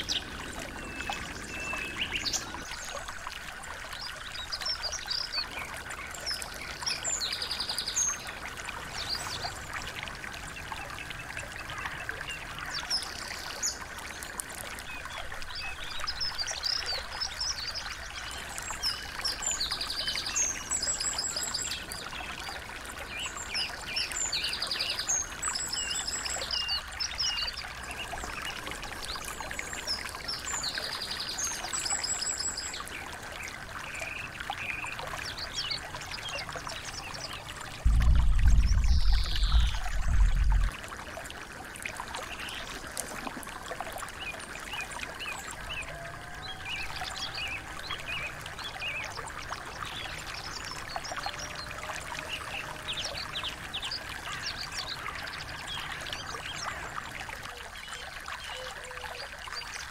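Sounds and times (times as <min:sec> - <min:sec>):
songbirds chirping and trilling: 0:00.0 - 0:40.7, 0:44.0 - 0:59.9
stream trickling: 0:00.0 - 0:59.9.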